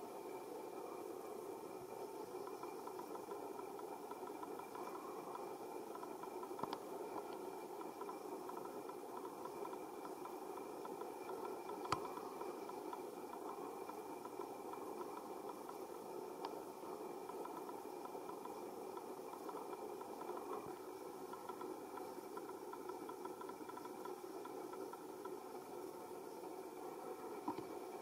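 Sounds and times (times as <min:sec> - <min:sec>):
outdoor background hum: 0:00.0 - 0:28.0.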